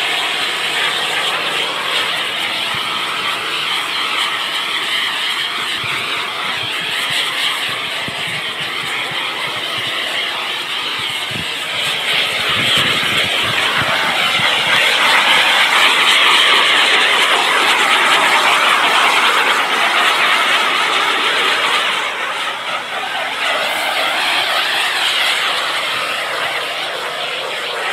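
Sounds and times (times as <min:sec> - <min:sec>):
heat gun hissing: 0:00.0 - 0:27.9.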